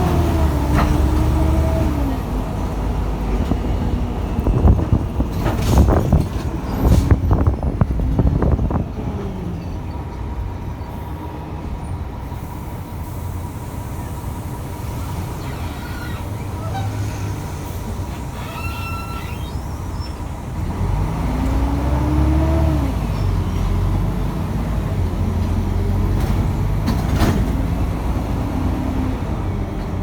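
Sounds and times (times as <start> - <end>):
bus body rattling: 0.0 - 12.4, 13.5 - 20.7, 23.0 - 30.0
bus diesel engine rumbling: 0.0 - 30.0.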